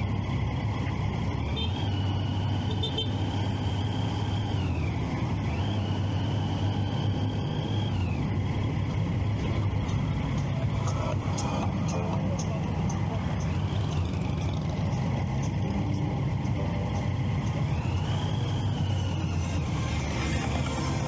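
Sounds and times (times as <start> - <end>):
motorcycle engine drone: 0.0 - 21.0
riding noise: 3.3 - 21.0.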